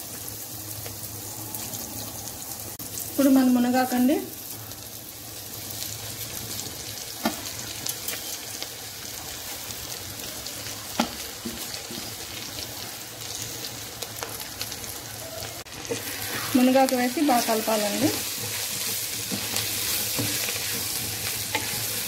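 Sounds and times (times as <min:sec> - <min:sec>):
oil sizzling in a pot: 0:00.0 - 0:22.0.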